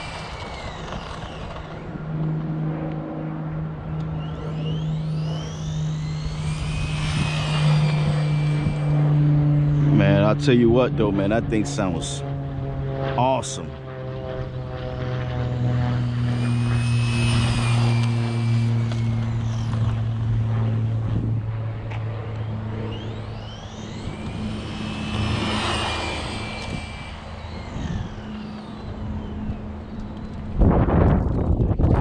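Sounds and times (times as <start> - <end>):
rc car electric motor whining past: 0.0 - 10.6, 13.8 - 31.2
steady low hum: 0.0 - 31.1.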